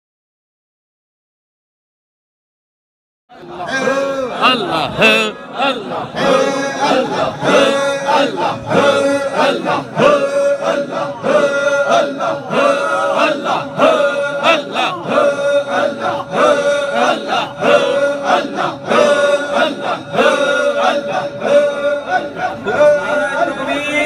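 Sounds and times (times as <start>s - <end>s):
men chanting together: 3.4s - 24.0s.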